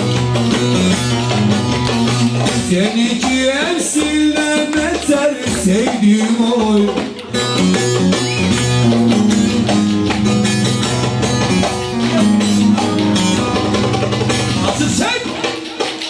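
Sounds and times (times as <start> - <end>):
percussion beat: 0.0 - 16.0
plucked string instruments: 0.0 - 16.0.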